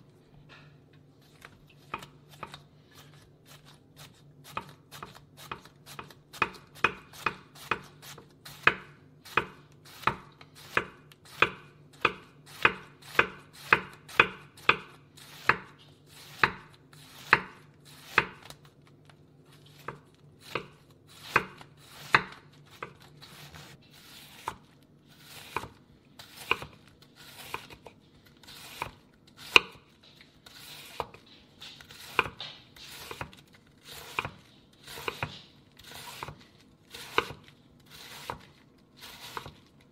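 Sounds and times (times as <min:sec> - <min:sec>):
knife chopping vegetables: 0:00.5 - 0:18.7, 0:19.5 - 0:39.9.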